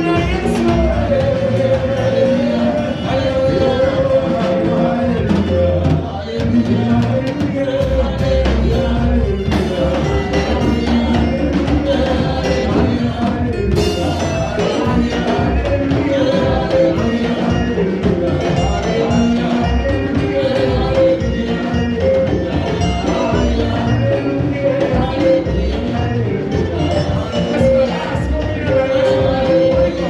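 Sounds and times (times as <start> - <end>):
gospel band playing: 0.0 - 30.0.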